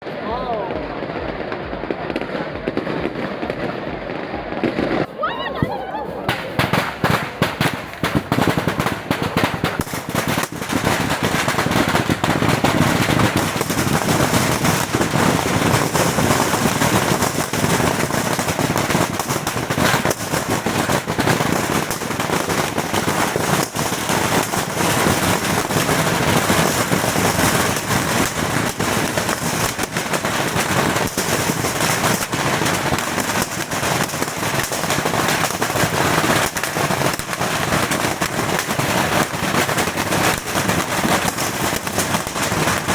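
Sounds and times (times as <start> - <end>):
bottle rockets crackling and banging: 6.2 - 42.9.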